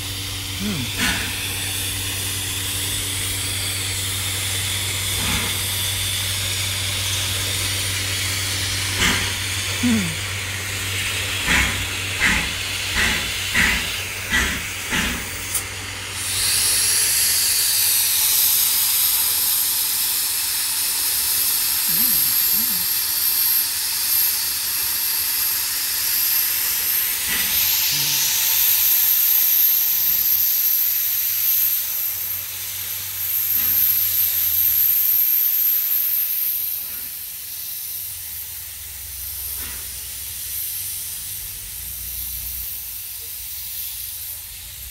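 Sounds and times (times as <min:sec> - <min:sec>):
steam hissing: 0:00.0 - 0:44.9
steam locomotive chuffing: 0:00.0 - 0:44.9.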